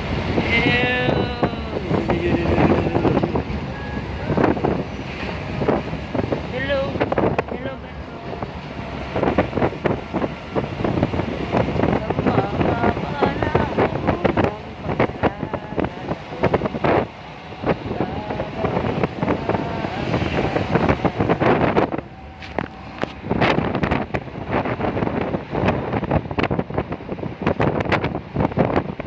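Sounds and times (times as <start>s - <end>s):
moving vehicle rumble: 0.0s - 29.0s
wind buffeting microphone: 0.0s - 29.0s.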